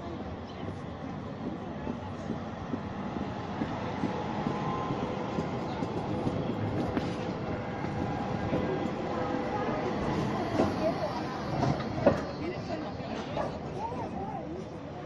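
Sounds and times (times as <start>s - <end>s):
tram wheels rumbling over rails: 0.0s - 15.0s.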